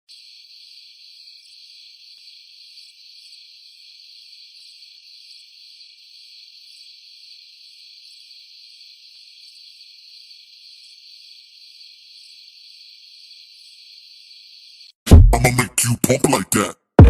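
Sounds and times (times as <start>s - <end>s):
insects chirping: 0.1s - 15.0s.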